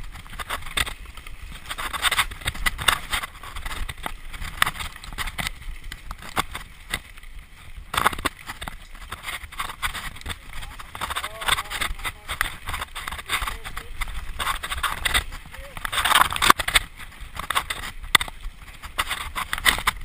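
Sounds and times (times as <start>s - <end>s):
mountain bike rattling: 0.0s - 20.0s
wind rumble on microphone: 0.0s - 20.0s.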